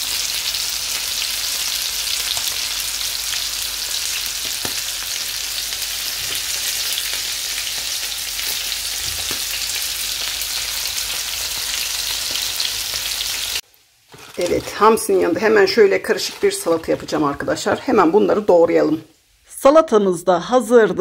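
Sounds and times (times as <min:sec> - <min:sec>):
fish sizzling in oil: 0:00.0 - 0:19.4.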